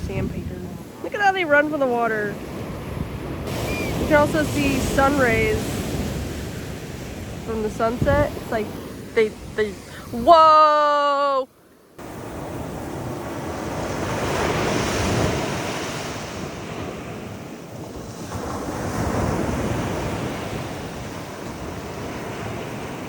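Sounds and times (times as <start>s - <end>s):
wind on microphone: 0.0s - 10.8s, 12.0s - 23.0s
ocean surf breaking on sand: 0.0s - 11.2s, 12.0s - 23.0s.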